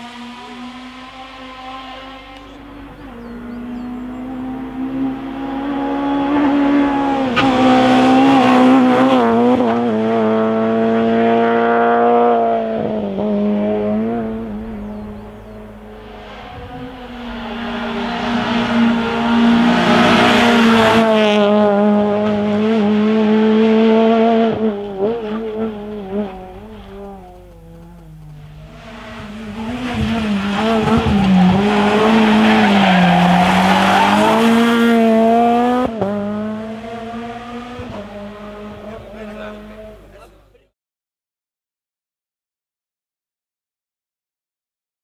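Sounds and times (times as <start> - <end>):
rally car engine revving: 0.0 - 40.5.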